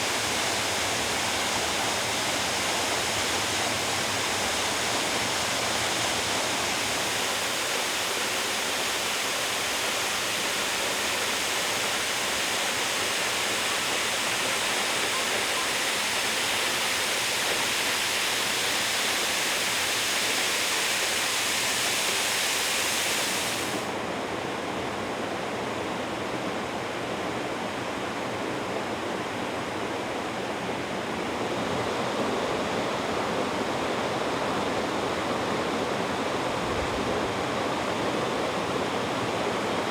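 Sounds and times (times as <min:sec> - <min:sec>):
waterfall roaring: 0:00.0 - 0:24.1, 0:30.4 - 0:39.9.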